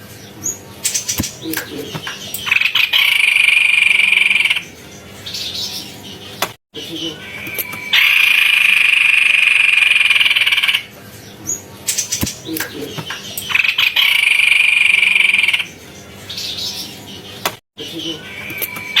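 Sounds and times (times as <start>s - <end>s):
bird chirps: 0.1s - 19.0s
bird trilling: 0.5s - 19.0s.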